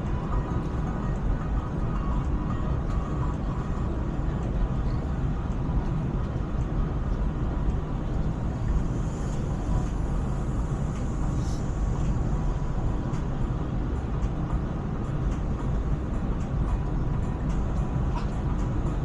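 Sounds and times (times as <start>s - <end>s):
electric train rumbling: 0.0s - 19.0s
thin steady tone: 0.0s - 19.0s.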